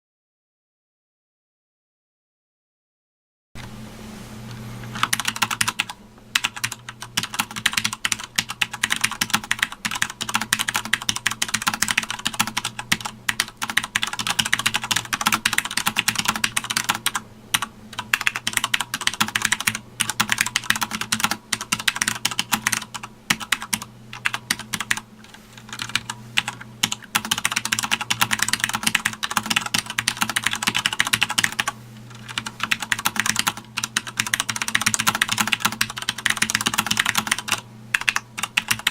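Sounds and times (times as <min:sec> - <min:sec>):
faint low hum: 0:03.6 - 0:38.9
mechanical keyboard typing: 0:05.0 - 0:38.9.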